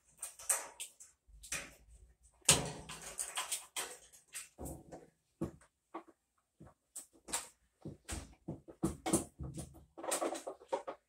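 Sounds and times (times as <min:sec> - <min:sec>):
knocks and scrapes in washer tub: 0:01.4 - 0:11.0.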